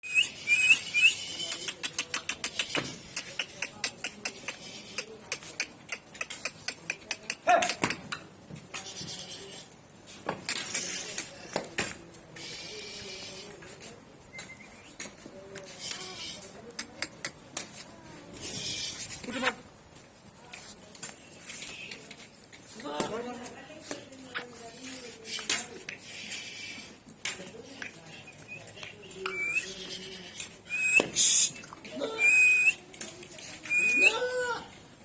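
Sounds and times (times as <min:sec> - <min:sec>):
hooves clicking and tapping: 0:00.2 - 0:35.0.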